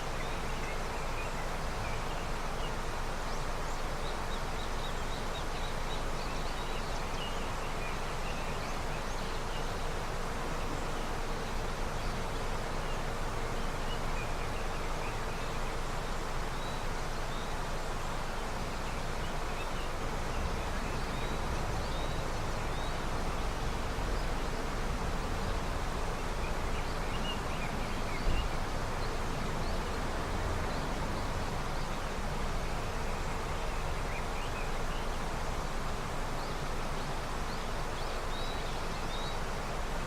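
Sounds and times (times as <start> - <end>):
river running: 0.0 - 40.0.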